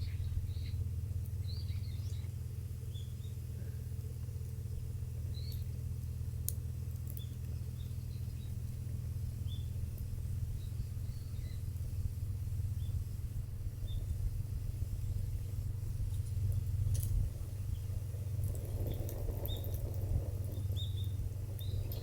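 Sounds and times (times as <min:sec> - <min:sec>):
small birds chirping: 0:00.0 - 0:05.8, 0:07.0 - 0:12.0, 0:12.7 - 0:13.1, 0:13.7 - 0:16.4, 0:17.3 - 0:22.0
steady low rumble: 0:00.0 - 0:22.0.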